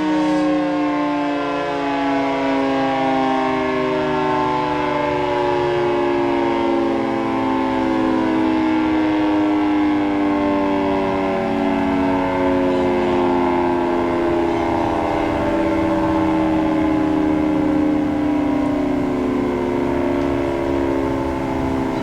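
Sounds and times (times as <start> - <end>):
tornado siren chord sliding down: 0.0 - 22.0.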